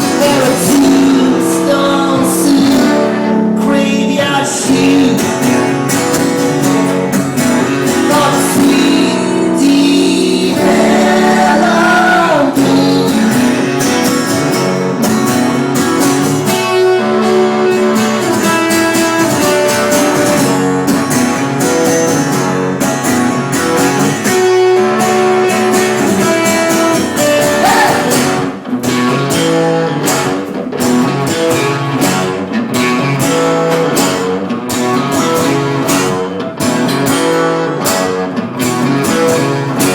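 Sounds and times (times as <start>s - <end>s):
blues song on guitars: 0.0s - 39.9s.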